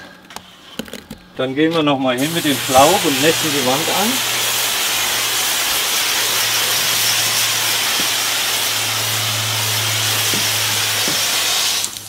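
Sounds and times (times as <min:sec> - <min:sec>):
water spraying from hose nozzle: 0:02.2 - 0:12.0.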